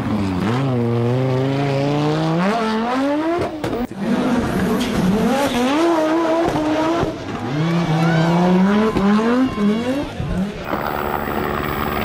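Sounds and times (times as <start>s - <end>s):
rally car engine revving: 0.1s - 12.0s.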